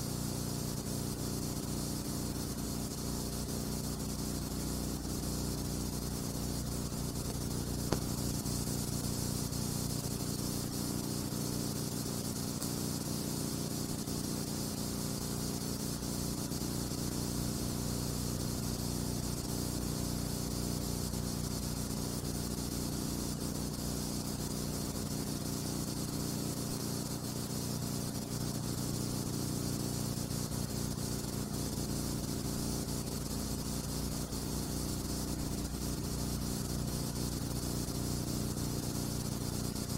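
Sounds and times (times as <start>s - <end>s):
steady hiss and low hum: 0.0s - 39.9s.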